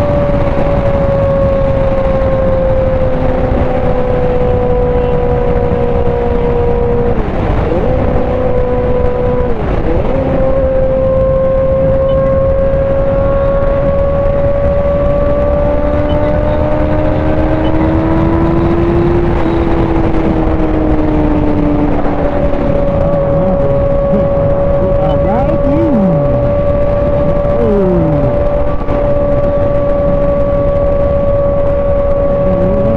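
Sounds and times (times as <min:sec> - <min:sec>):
motorcycle engine: 0:00.0 - 0:32.9
wind rushing: 0:05.2 - 0:32.9.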